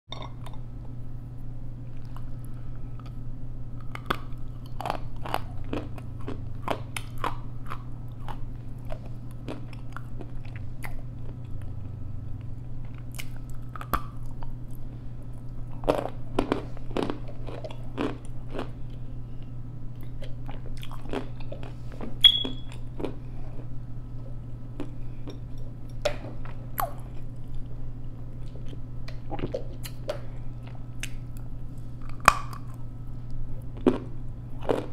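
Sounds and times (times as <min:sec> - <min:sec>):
steady low hum: 0:00.1 - 0:34.9
crunching and chewing clay: 0:03.8 - 0:34.9.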